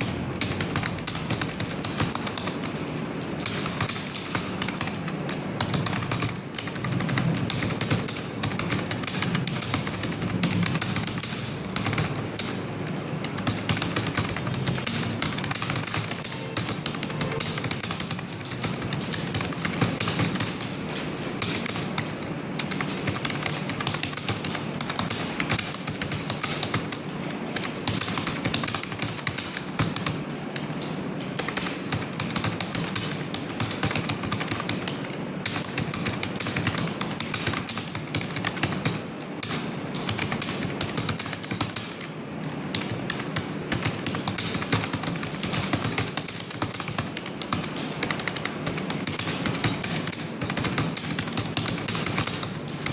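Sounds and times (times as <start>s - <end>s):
typing on computer keyboard: 0.0s - 52.9s.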